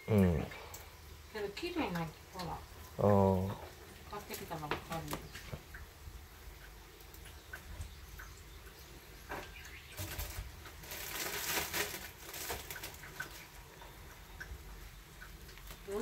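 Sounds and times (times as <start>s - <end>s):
rustling hiss: 0.0s - 16.0s.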